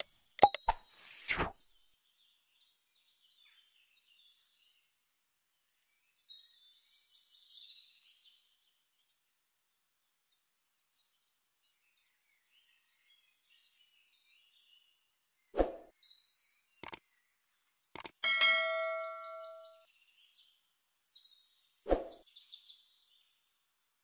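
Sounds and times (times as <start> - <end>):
birds chirping and twittering: 1.9 - 24.0.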